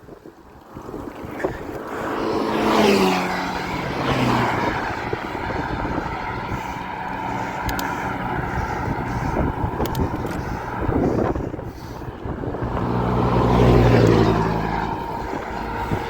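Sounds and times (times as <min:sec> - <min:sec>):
wind noise on microphone: 0:00.0 - 0:16.0
vehicle passing by: 0:00.5 - 0:16.0
low engine drone: 0:02.0 - 0:16.0.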